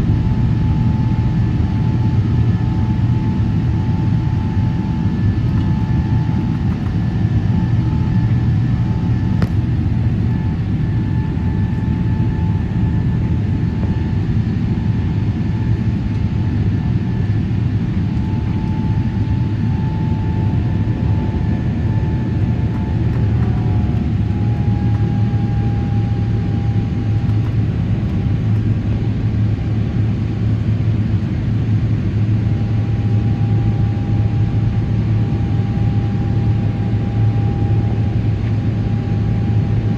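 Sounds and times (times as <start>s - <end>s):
faint engine whine: 0.0s - 39.9s
jet engine cabin hum: 0.0s - 39.9s.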